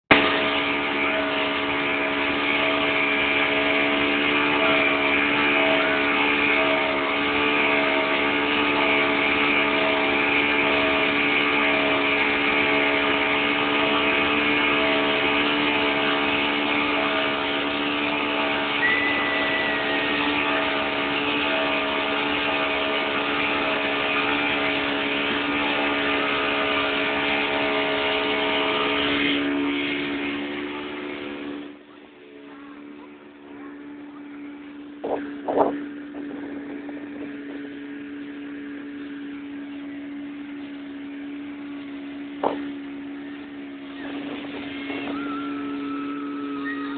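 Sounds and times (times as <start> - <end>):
motorboat engine running: 0.0 - 46.9.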